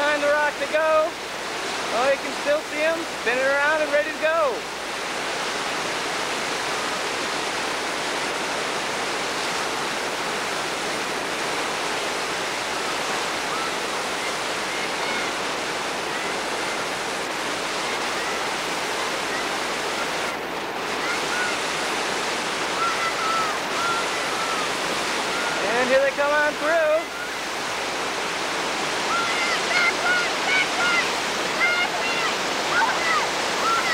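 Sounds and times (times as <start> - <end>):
whitewater roaring: 0.0 - 33.9.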